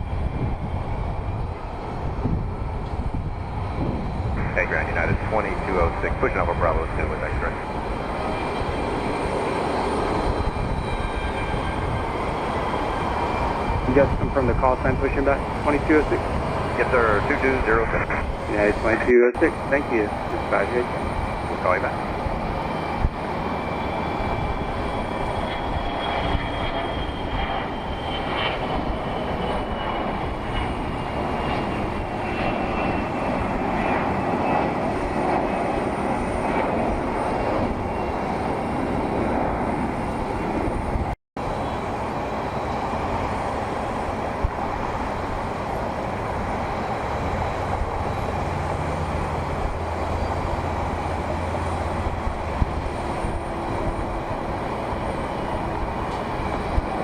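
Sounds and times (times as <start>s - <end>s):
high engine whine: 0.0s - 57.0s
jet engines running: 0.0s - 57.0s.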